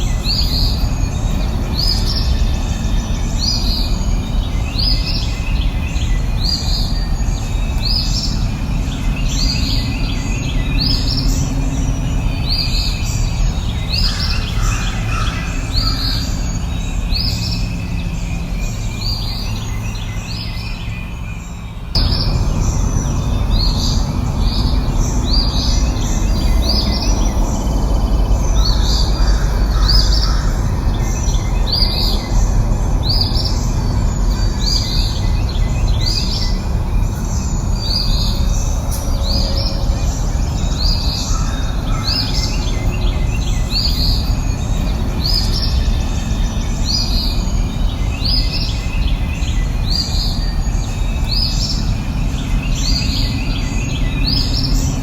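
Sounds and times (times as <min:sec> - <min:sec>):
low rushing background: 0:00.0 - 0:55.0
songbird high chirps: 0:00.0 - 0:55.0.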